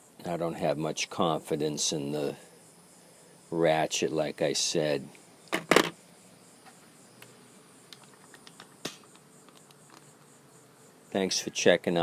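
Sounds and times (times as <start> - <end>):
faint insect hum: 0.0 - 12.0
faint scattered ticks: 0.0 - 12.0.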